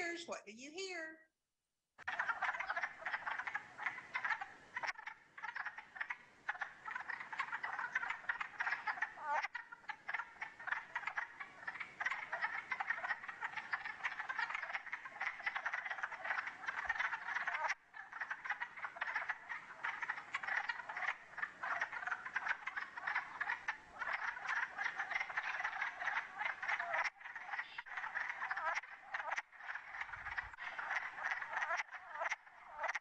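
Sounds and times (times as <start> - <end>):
frogs quacking chorus: 2.0 - 33.0.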